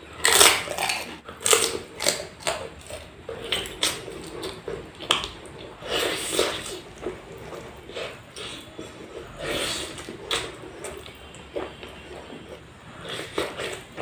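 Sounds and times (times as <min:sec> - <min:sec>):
food crunching: 0:00.0 - 0:14.0.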